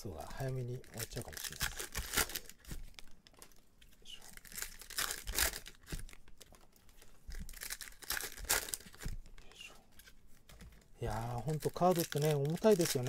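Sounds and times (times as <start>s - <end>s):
foil wrappers crinkling and tearing: 0.0s - 9.2s, 10.6s - 13.0s.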